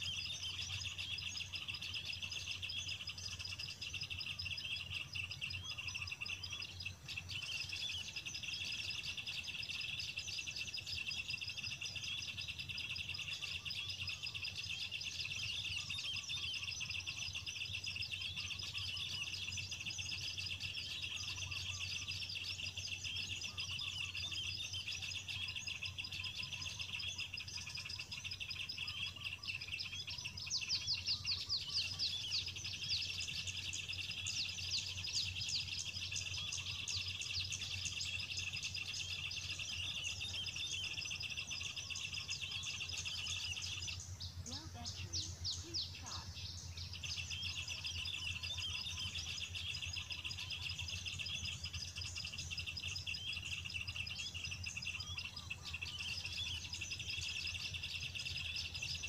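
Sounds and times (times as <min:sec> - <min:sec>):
small birds chirping and twittering: 0:00.0 - 0:59.0.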